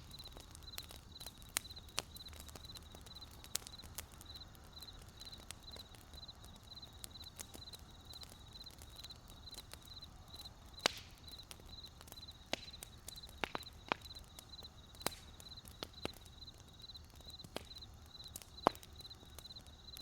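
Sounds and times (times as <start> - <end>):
crickets chirping: 0.0 - 20.0
wood fire crackling: 0.0 - 20.0.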